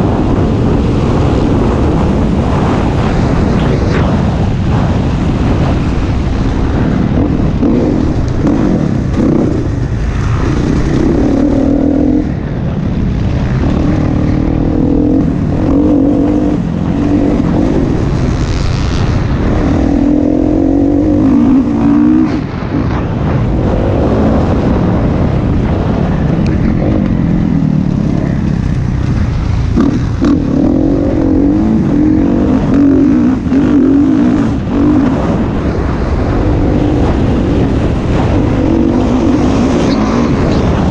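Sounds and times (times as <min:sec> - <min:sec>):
steady rush: 0:00.0 - 0:40.9
dirt bike engine revving: 0:04.7 - 0:25.0, 0:25.6 - 0:40.9.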